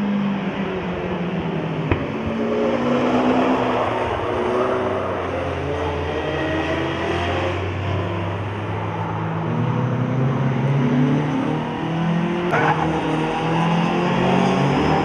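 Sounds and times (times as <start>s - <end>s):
race car engines: 0.0s - 15.0s.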